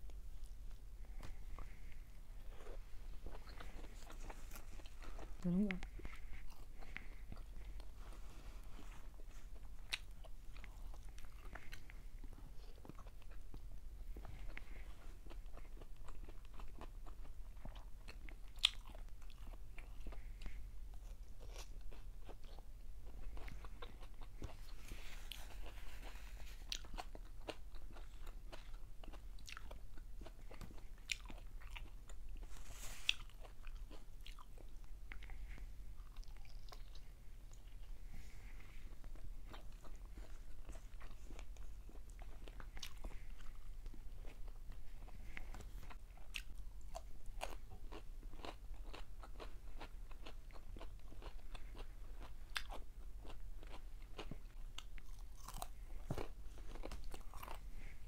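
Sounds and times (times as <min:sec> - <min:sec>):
chewing crunches: 0:00.4 - 0:08.0, 0:09.5 - 0:32.5, 0:39.0 - 0:57.9.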